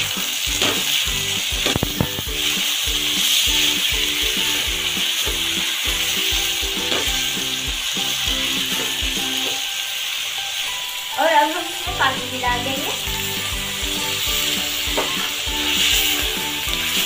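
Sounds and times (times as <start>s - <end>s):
onions and tomatoes sizzling in oil: 0.0s - 17.0s.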